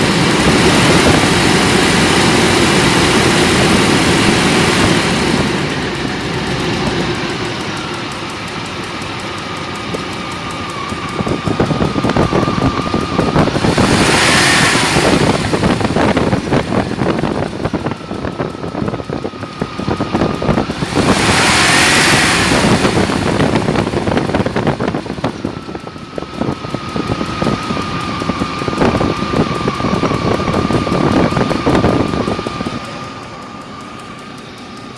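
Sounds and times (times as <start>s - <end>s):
cooling fan whirr: 0.0s - 34.9s
engine running with fast tick: 0.0s - 34.9s.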